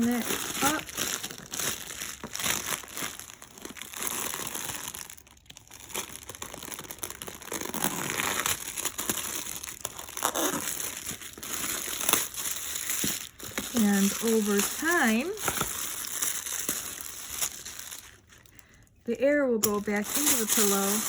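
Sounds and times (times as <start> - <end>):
plastic bag crinkling and tearing: 0.0 - 18.9, 19.6 - 21.0.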